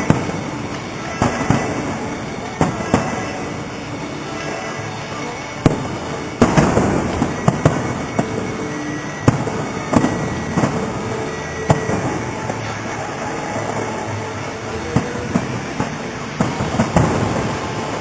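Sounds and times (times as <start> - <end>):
firework shells booming: 0.0 - 18.0.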